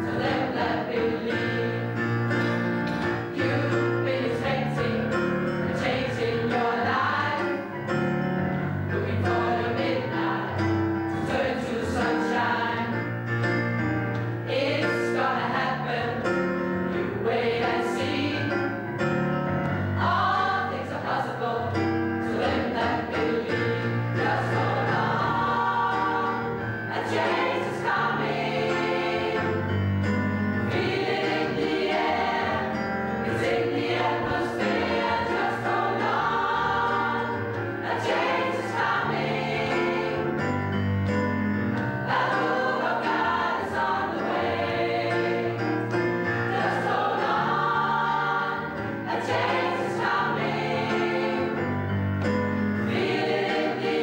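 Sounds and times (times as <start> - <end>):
gospel choir singing in harmony: 0.0 - 54.0.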